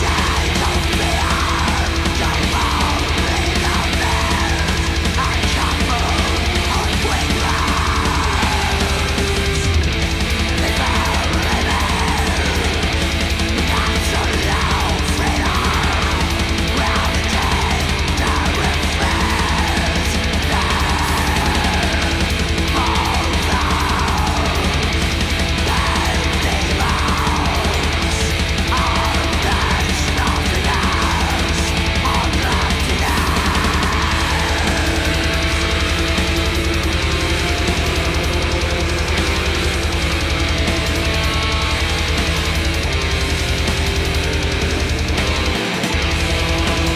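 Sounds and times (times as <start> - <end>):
distorted electric guitars: 0.0 - 46.9
fast dense drumming: 0.0 - 46.9.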